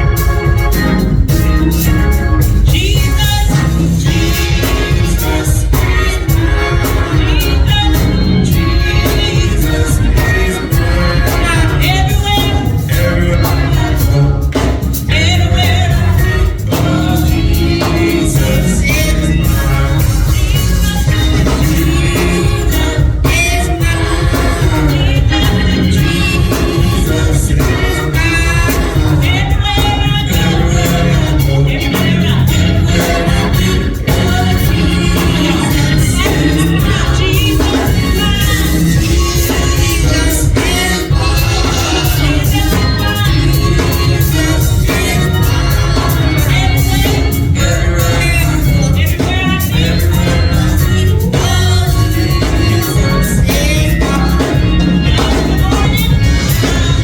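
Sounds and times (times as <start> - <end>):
gospel singing: 0.0 - 57.0
heavy steady bass: 0.0 - 57.0
organ: 0.0 - 57.0.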